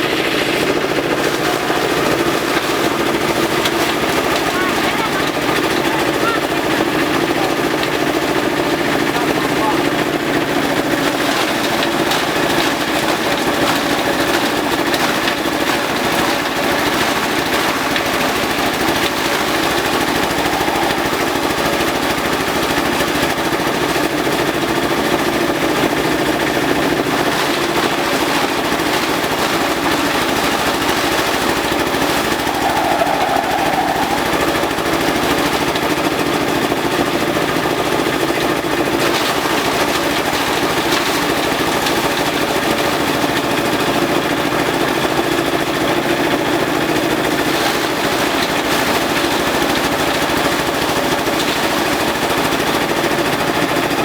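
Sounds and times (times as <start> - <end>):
compost chopper shredding grass: 0.0 - 54.0.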